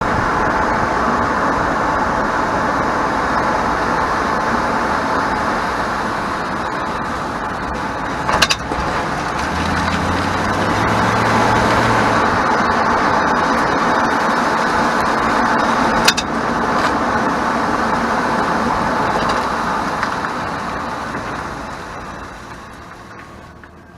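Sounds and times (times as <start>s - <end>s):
engine hum: 0.0s - 23.9s
road and tyre noise: 0.0s - 23.9s.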